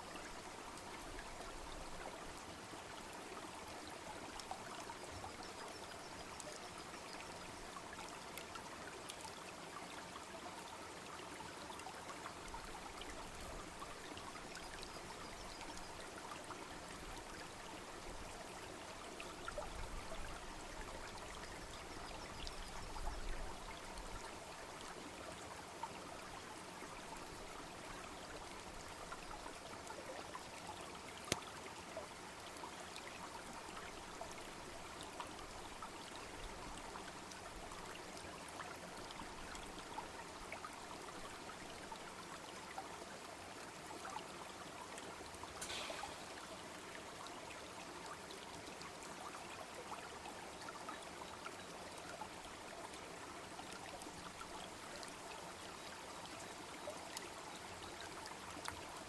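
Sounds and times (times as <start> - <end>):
babbling brook: 0.0 - 59.0.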